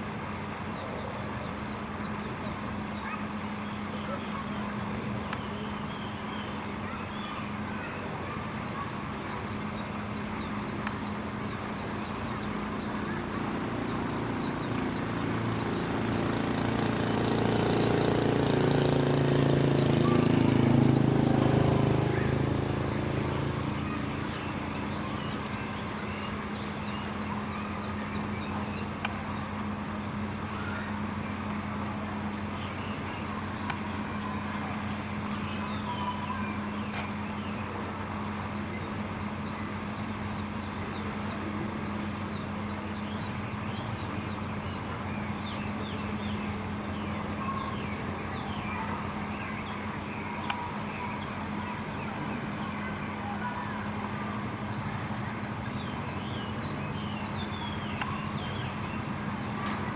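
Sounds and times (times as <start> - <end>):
birds chirping: 0.0 - 59.9
engine-like sound: 0.0 - 59.9
low machine hum: 0.0 - 59.9.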